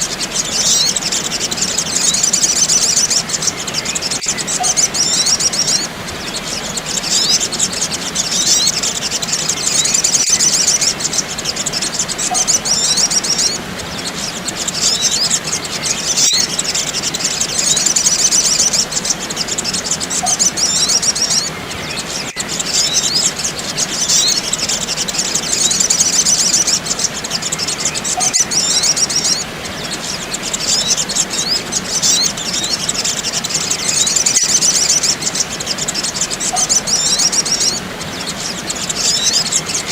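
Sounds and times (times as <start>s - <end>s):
birds chattering chirps: 0.0s - 39.9s.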